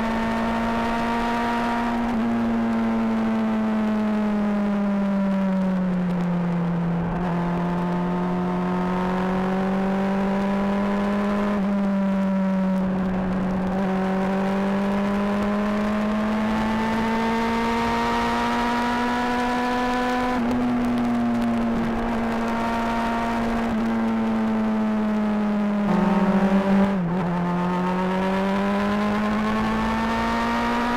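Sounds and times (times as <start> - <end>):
motorcycle engine and exhaust: 0.0 - 30.9.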